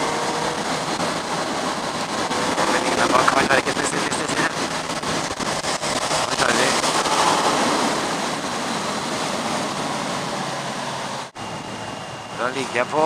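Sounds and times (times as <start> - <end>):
motorcycle engine humming: 0.0 - 12.3
wind rush: 0.0 - 12.5.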